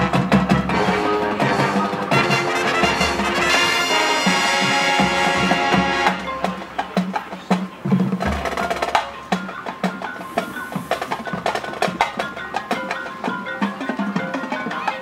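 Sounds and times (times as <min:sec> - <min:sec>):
marching band brass and winds: 0:00.0 - 0:15.0
percussion strikes: 0:00.0 - 0:15.0.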